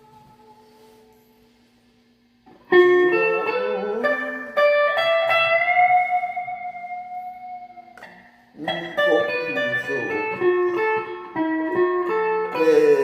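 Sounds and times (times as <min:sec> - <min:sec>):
plucked guitar notes: 0:02.5 - 0:13.0.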